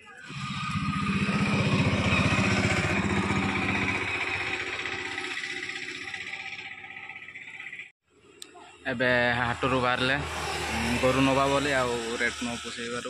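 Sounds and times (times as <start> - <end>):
small motor vehicle passing: 0.1 - 7.8, 9.2 - 13.0.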